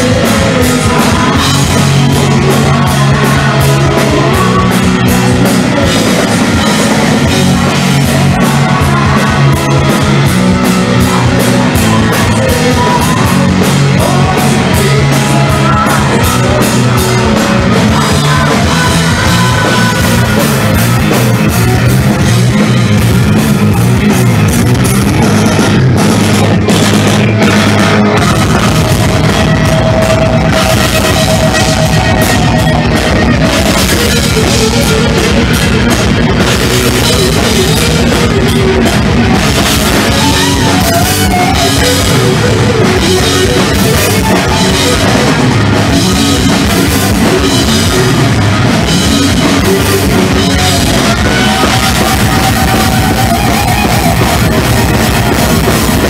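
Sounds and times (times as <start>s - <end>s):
bass guitar: 0.0s - 56.0s
distorted electric guitars: 0.0s - 56.0s
pounding drum kit: 0.0s - 56.0s.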